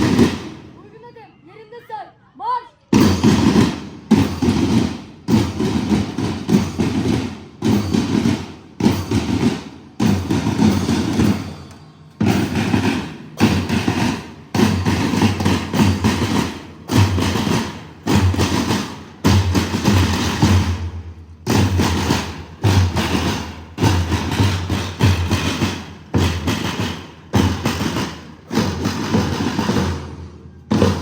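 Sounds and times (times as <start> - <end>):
marching band drums beating: 0.0 - 1.1, 2.9 - 31.0.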